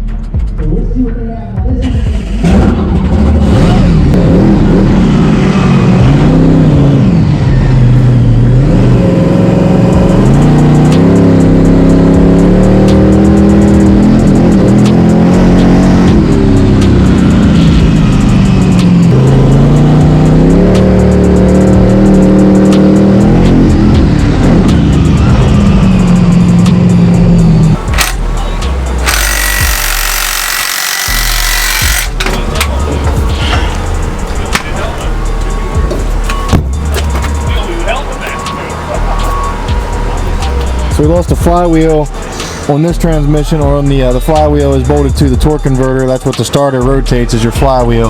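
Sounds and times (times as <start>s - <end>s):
music: 0.0s - 48.0s
monster truck engine revving: 2.1s - 48.0s.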